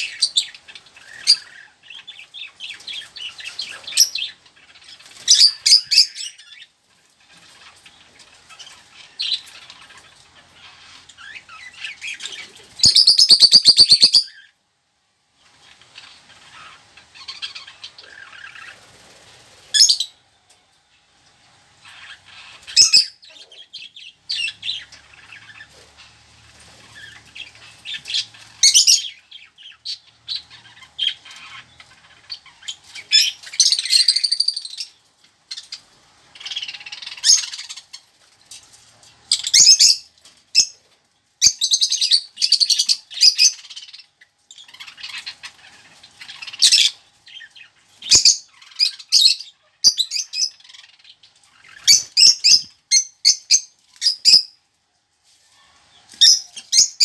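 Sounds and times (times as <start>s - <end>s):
birds chirping and squawking: 0.0s - 14.6s, 15.4s - 20.4s, 21.0s - 54.6s, 55.5s - 57.0s.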